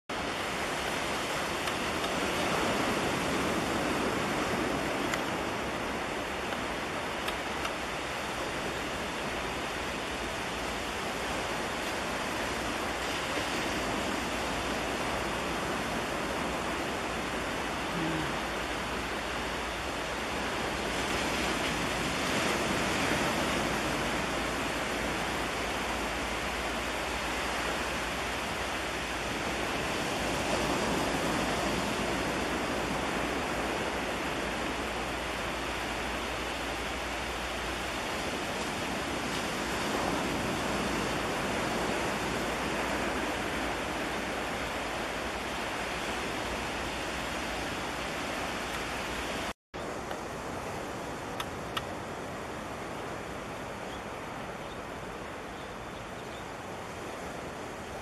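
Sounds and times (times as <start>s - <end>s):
wind: 0.0s - 58.0s
sea waves on rocks: 0.1s - 53.5s.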